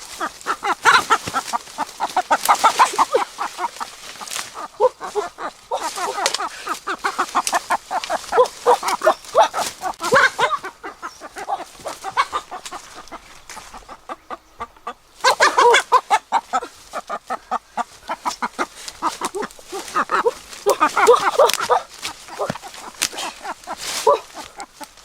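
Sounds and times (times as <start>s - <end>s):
chickens clucking and squawking: 0.0s - 25.0s.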